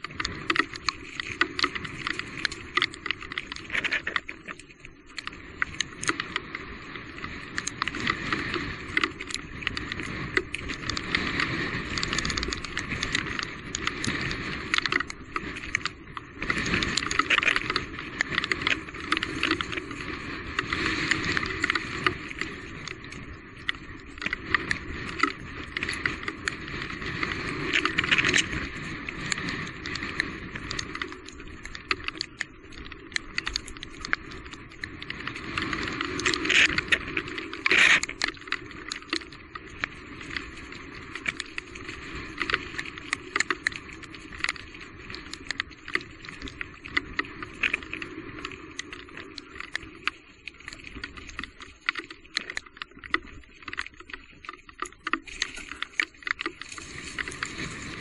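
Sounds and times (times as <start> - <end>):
bike tyre and wind noise: 0.0 - 58.0.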